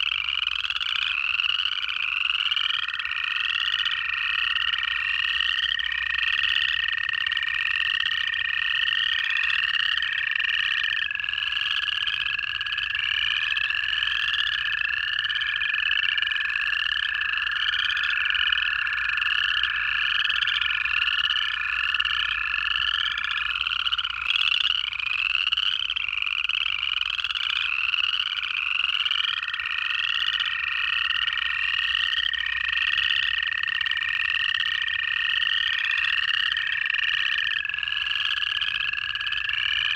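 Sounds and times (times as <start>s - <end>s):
frogs trilling: 0.0s - 39.9s
toads giving long trills: 0.0s - 39.9s.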